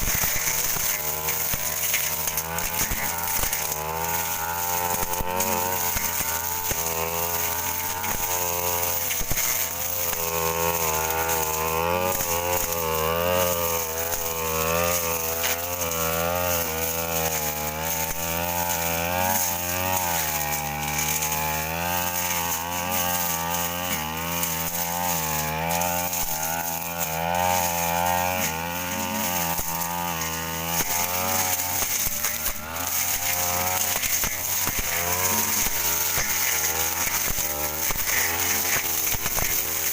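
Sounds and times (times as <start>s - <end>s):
brush cutter running: 0.0s - 39.9s.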